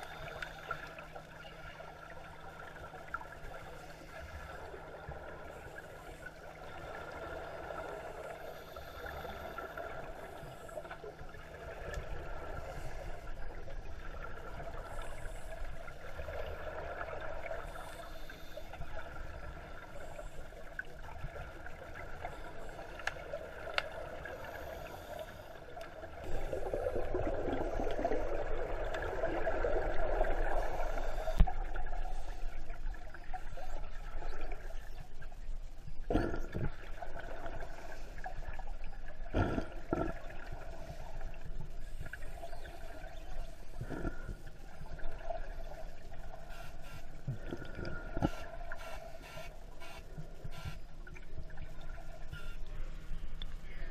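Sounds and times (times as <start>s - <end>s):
underwater bubbling of divers breathing: 0.0s - 53.9s.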